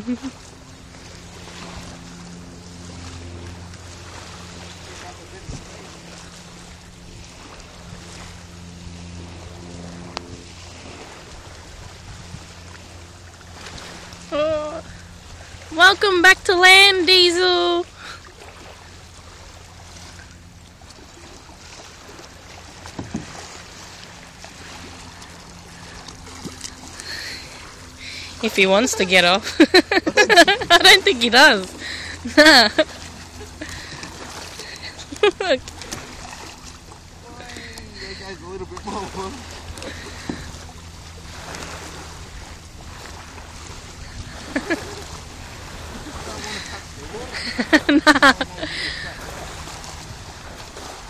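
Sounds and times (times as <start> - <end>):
kayak paddle strokes: 0.0 - 51.0
water lapping against hull: 0.0 - 51.0
wind: 0.0 - 51.0.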